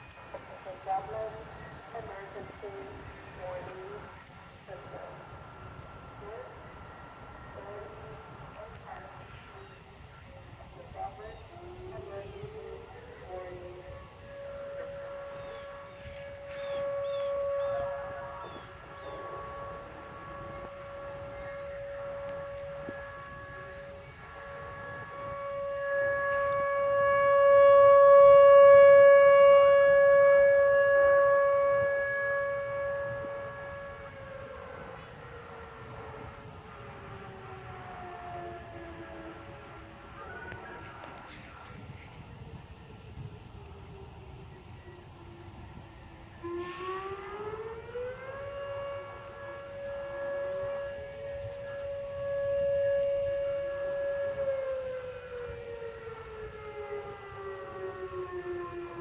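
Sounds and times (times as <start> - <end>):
tornado sirens steady tone: 0.0 - 59.0.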